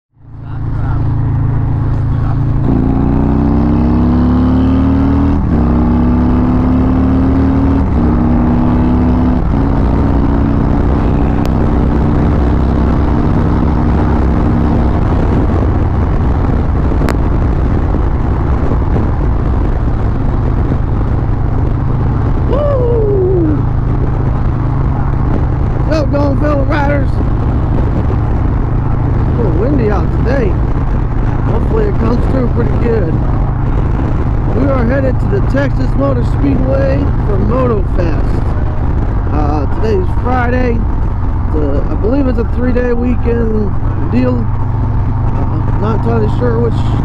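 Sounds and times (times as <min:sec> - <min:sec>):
motorcycle accelerating through gears: 0:00.2 - 0:47.0
wind rush at cruising speed: 0:00.2 - 0:47.0.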